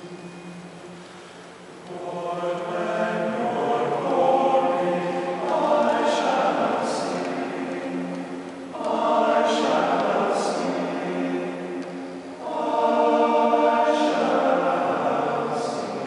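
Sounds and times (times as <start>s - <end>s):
men's chorus singing a hymn: 1.9s - 16.0s.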